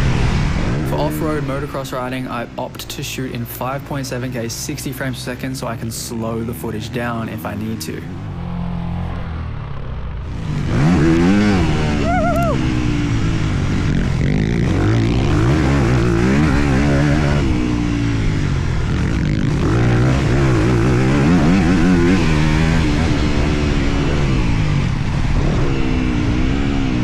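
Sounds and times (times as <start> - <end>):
motocross bike engine revving: 0.0 - 27.0.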